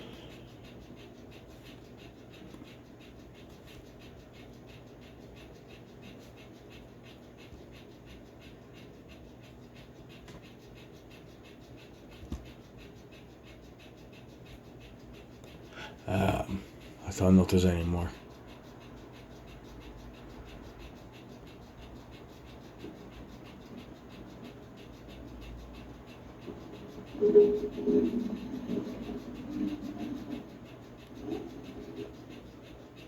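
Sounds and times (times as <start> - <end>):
rhythmic chirping or clicking: 0.0 - 33.0.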